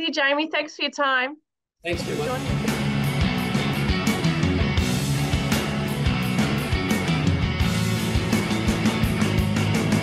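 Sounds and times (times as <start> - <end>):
rock band playing: 1.9 - 10.0.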